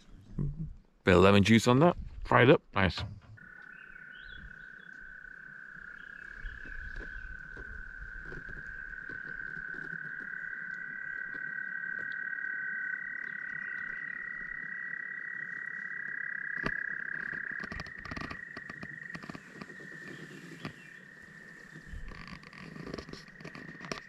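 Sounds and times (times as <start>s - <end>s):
frogs trilling: 3.4s - 24.0s.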